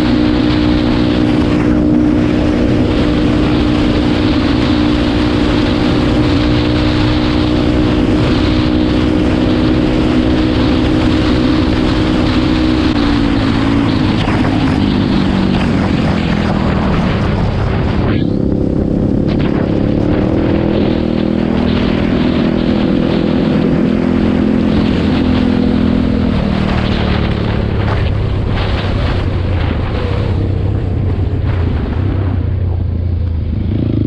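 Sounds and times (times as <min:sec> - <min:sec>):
quad engine running: 0:00.0 - 0:34.0
wind noise on microphone: 0:00.0 - 0:34.0.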